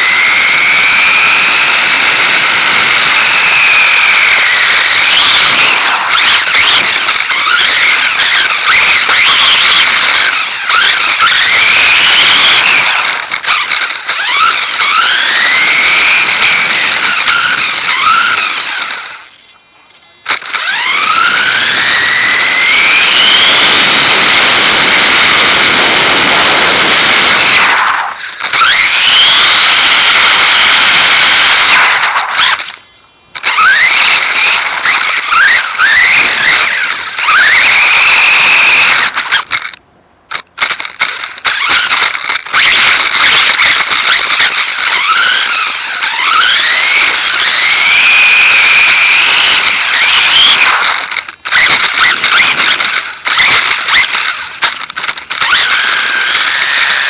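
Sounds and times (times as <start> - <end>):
electric motor whining: 0.0 - 19.5, 20.2 - 57.0
tyre and road noise: 0.0 - 57.0.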